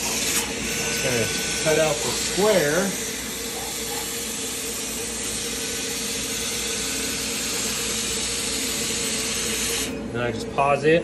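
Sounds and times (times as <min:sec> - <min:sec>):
blowing air and fan hiss: 0:00.0 - 0:11.0.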